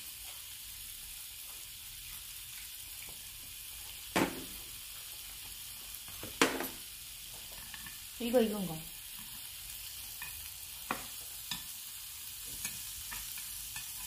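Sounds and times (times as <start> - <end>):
pork sizzling on a grill plate: 0.0 - 14.0.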